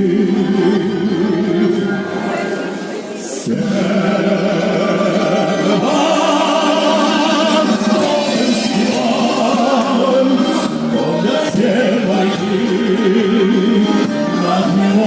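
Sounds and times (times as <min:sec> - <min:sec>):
music with voices singing: 0:00.0 - 0:15.0.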